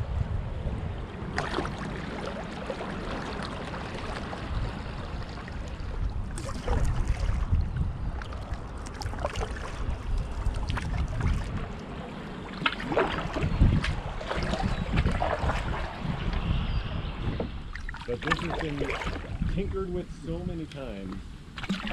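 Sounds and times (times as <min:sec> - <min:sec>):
wind rumble on microphone: 0:00.0 - 0:21.9
paddle strokes splashing water: 0:01.3 - 0:16.4, 0:17.3 - 0:19.5, 0:21.5 - 0:21.9.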